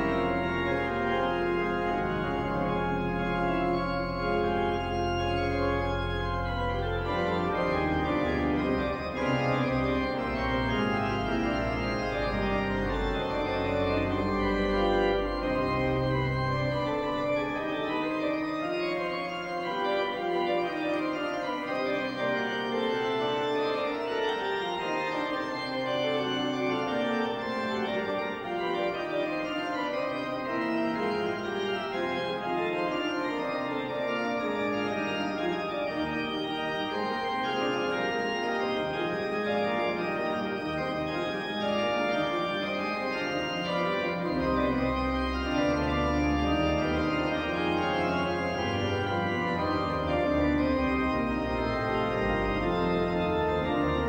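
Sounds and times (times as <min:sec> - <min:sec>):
deep organ pedal bass notes: 0:00.0 - 0:54.0
organ playing sustained chords: 0:00.0 - 0:54.0.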